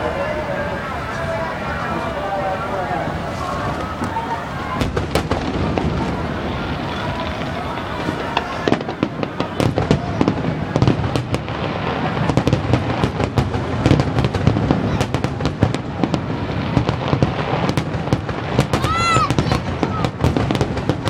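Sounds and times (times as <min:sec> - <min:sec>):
fireworks popping and cracking: 0:00.0 - 0:21.0.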